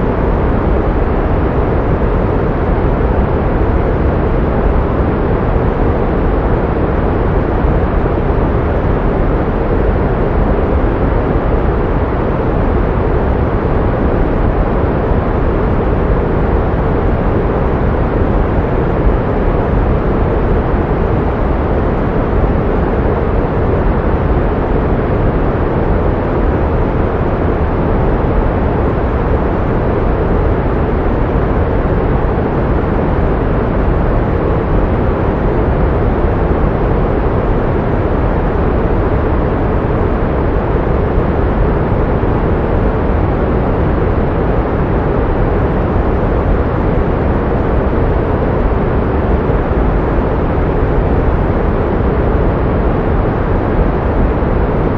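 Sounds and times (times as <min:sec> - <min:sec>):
pink noise hiss: 0:00.0 - 0:54.9.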